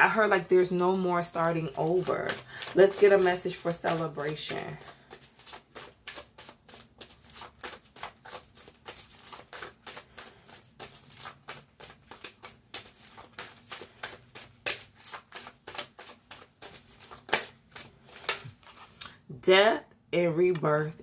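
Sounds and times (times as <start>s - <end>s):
cards being shuffled: 1.5s - 19.0s.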